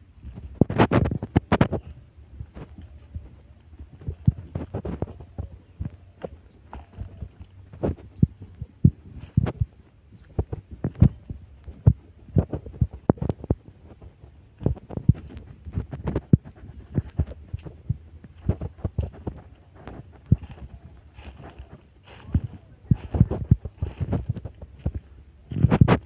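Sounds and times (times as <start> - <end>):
faint low rumble: 0.0 - 26.0
footsteps and handling thumps: 0.2 - 26.0.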